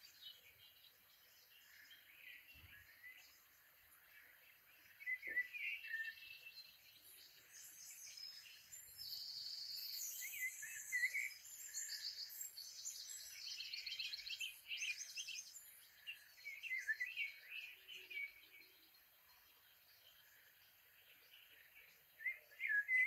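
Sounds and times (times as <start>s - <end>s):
birds chirping and singing: 0.0s - 23.0s.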